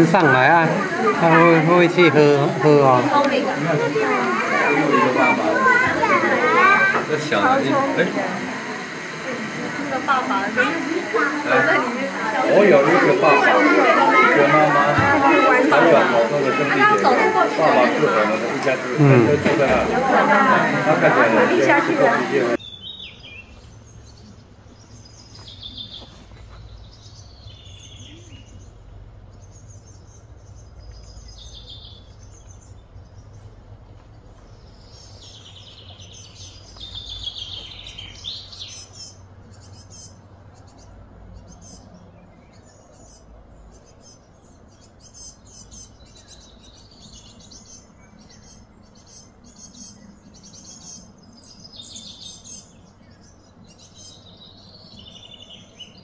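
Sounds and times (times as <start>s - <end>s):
birds chirping: 0.0s - 56.0s
low steady background hum: 0.0s - 56.0s.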